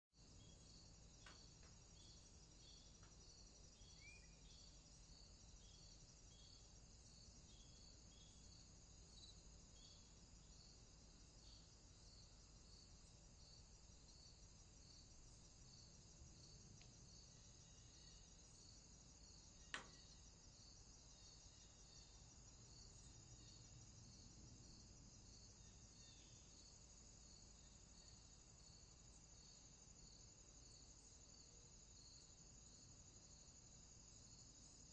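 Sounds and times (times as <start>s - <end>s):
crickets chirping: 0.2s - 34.9s
high insect hiss: 0.2s - 34.9s.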